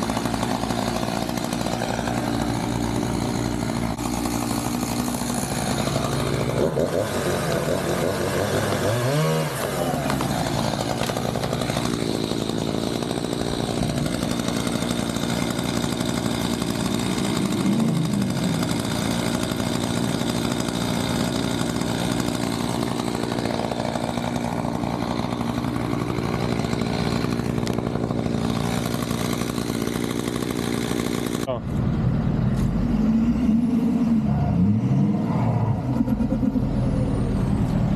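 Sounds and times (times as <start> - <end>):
chainsaw cutting at high revs: 0.0 - 31.6.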